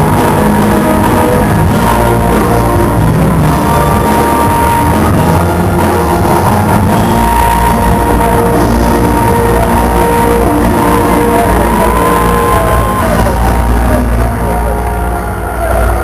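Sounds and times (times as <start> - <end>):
live gospel band and choir: 0.0 - 16.0.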